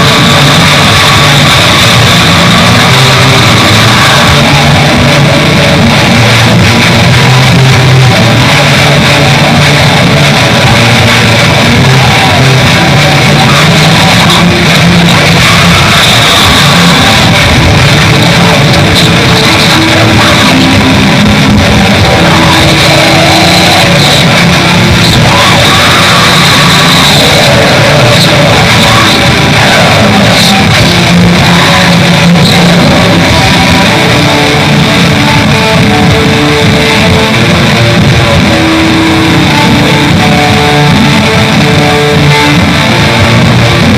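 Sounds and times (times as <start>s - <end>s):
distorted electric guitars: 0.0s - 43.9s
fast drumming: 0.0s - 43.9s.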